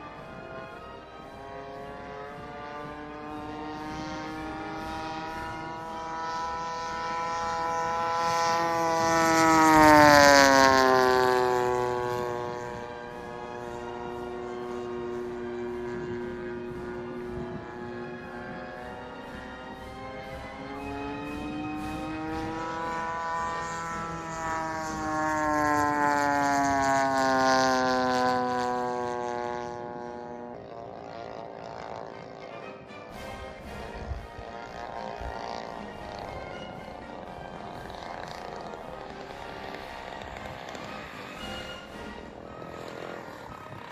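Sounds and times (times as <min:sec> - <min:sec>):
model plane engine fly-by: 0:00.0 - 0:43.9.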